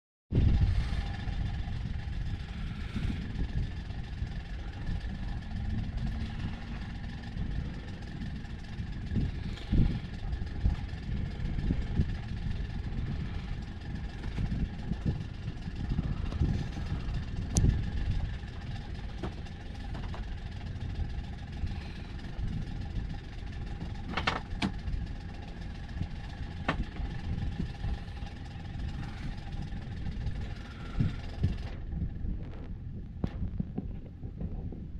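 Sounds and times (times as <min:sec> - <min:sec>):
boat engine running: 0:00.3 - 0:34.9
wind rumble on microphone: 0:00.3 - 0:34.9.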